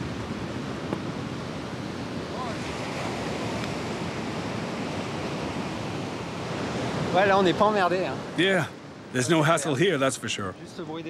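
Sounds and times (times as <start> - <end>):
ocean waves washing ashore: 0.0 - 11.0.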